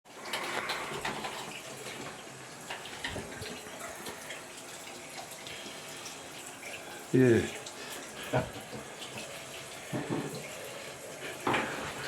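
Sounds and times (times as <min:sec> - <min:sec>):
water running from a tap: 0:00.1 - 0:12.0.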